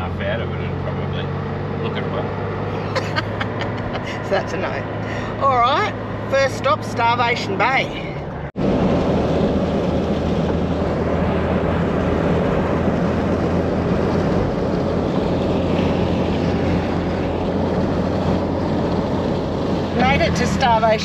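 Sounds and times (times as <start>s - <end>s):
engine drone: 0.0s - 21.0s
tyre and road rumble: 0.0s - 21.0s.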